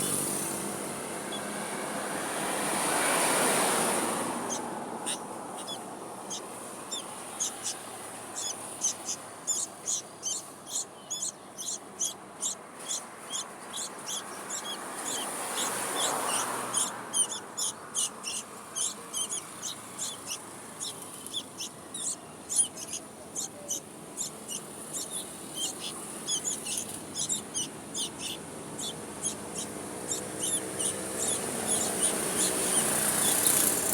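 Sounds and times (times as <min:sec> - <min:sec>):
nestlings cheeping: 0:00.0 - 0:33.9.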